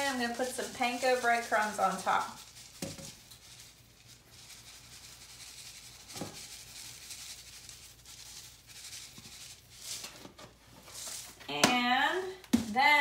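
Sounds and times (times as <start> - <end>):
breadcrumbs rustling: 0.0 - 11.4.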